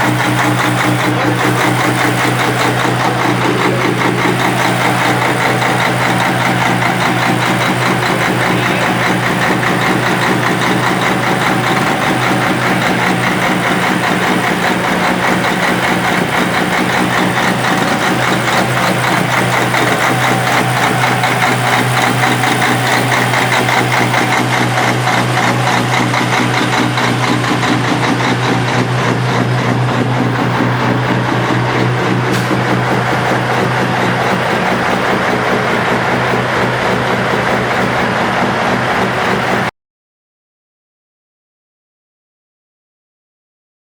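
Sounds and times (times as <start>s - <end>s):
diesel truck engine idling: 0.0s - 39.7s.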